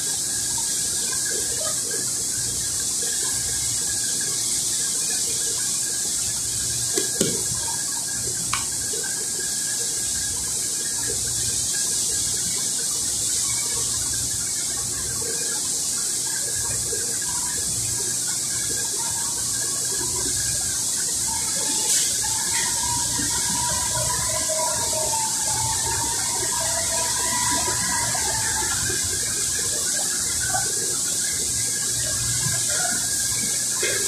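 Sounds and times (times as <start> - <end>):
high-pitched hiss: 0.0 - 34.0.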